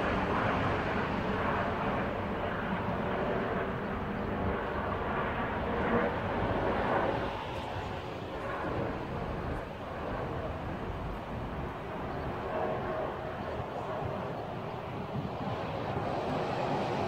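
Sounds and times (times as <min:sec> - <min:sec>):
airplane engine drone overhead: 0:00.0 - 0:17.0.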